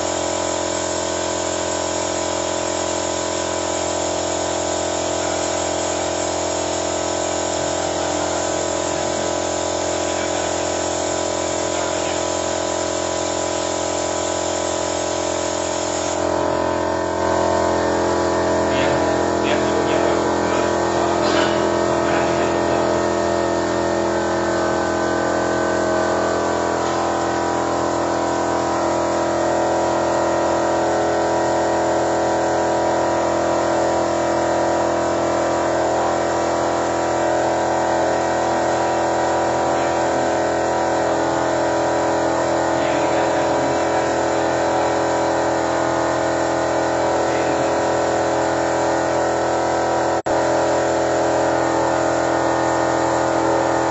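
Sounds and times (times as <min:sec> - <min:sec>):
machine droning: 0:00.0 - 0:53.9.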